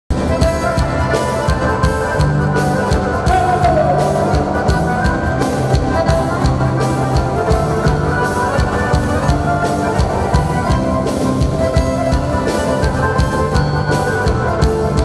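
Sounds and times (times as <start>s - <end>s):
accordions playing: 0.1s - 15.0s
drum kit steady beat: 0.1s - 15.0s
electric guitar: 0.1s - 15.0s.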